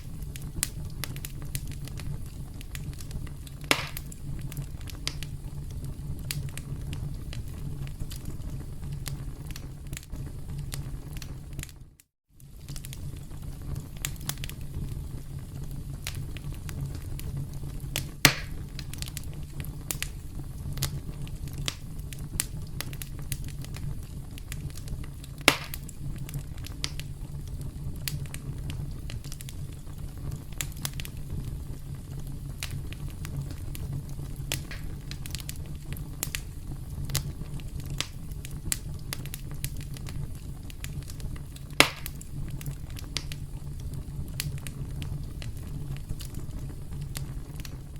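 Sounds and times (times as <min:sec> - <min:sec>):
campfire crackling and popping: 0:00.0 - 0:47.9
low rumble of burning: 0:00.0 - 0:47.9.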